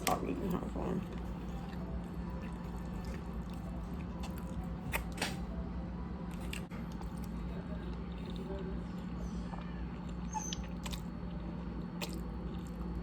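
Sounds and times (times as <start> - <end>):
chewing: 0.0 - 5.5, 6.3 - 13.0
low room hum: 0.0 - 13.0.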